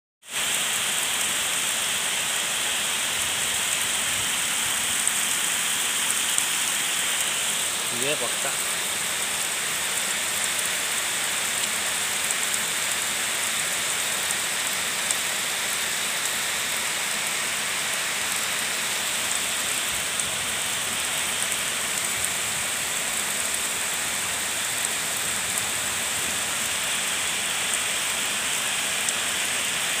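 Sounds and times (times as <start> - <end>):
waterfall rushing: 0.3 - 30.0
raindrops ticking: 3.6 - 29.3.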